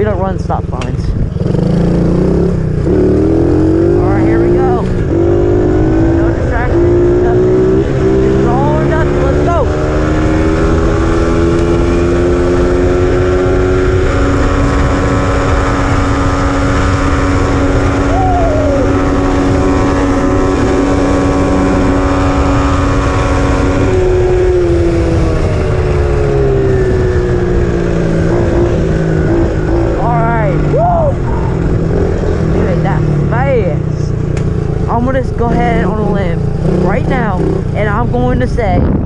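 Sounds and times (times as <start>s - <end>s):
motorbike engine at high revs: 0.0s - 39.0s
wind noise on microphone: 0.0s - 39.0s.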